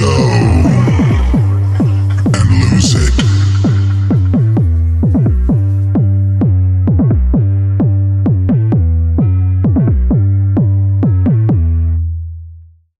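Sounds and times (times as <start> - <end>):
house music: 0.0 - 11.4.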